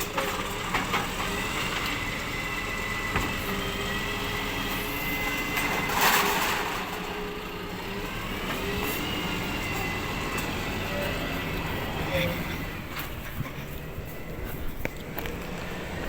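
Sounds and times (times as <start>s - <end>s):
truck mechanical whine: 0.0s - 16.0s.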